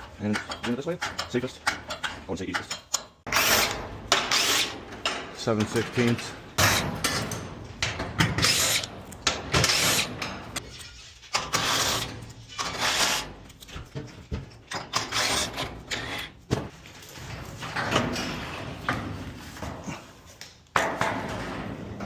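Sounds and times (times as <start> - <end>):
metal clicks and clanks: 0.0 - 19.4.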